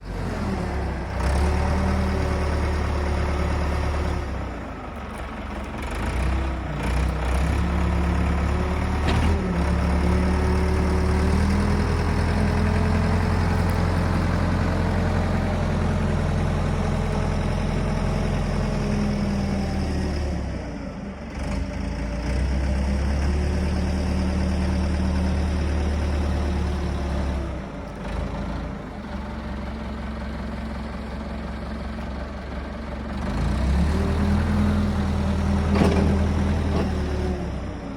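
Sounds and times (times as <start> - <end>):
heavy engine running: 0.0 - 37.9.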